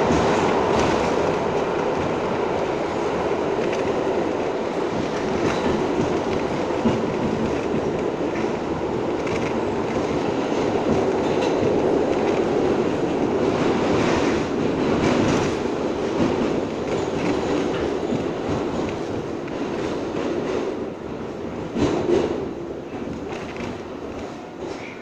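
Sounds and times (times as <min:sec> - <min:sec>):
train wheels on rail: 0:00.0 - 0:25.0.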